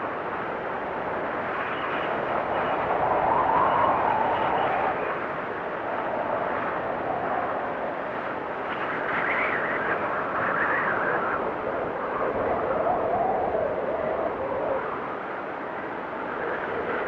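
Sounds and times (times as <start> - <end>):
blizzard wind howling: 0.0 - 17.0.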